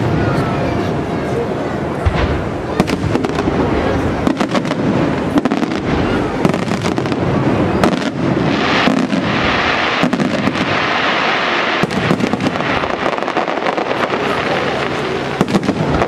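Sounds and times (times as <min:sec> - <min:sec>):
crackling firework bursts: 0:00.0 - 0:16.0
fireworks bursting: 0:01.8 - 0:16.0.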